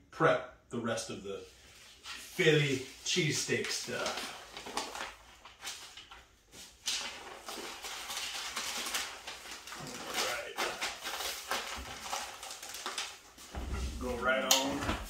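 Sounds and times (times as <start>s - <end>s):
paper crinkling and rustling: 2.0s - 15.0s.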